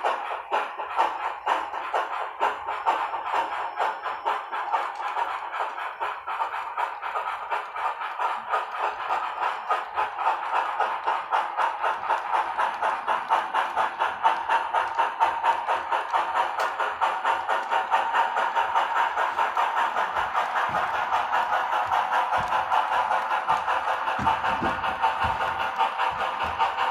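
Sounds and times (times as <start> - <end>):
model steam locomotive chuffing: 0.0 - 26.9.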